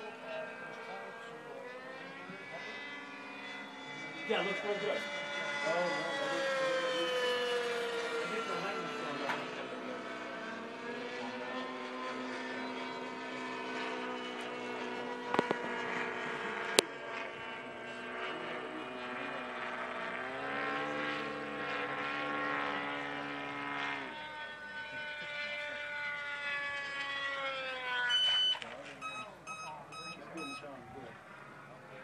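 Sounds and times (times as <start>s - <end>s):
model airplane engines droning: 0.0s - 32.0s.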